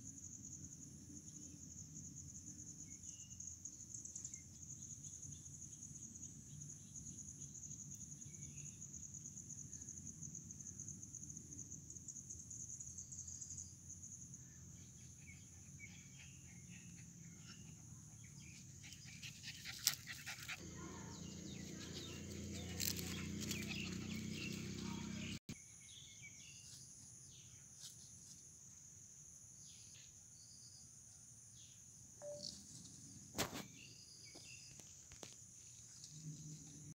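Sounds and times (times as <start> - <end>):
insects chirring: 0.0 - 36.9.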